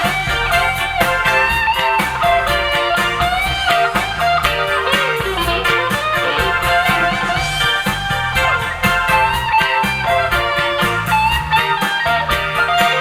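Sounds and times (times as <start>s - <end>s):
live band playing soul ballad: 0.0s - 13.0s.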